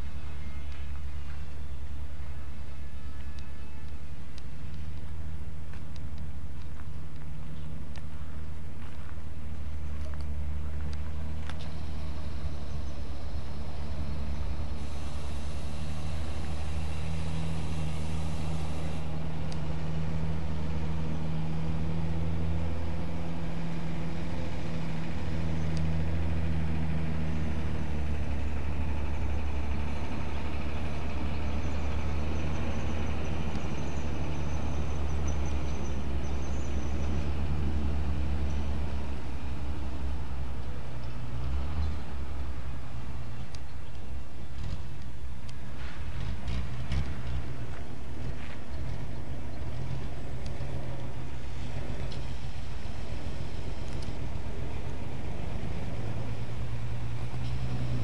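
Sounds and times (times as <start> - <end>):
large engine droning: 0.0 - 58.0.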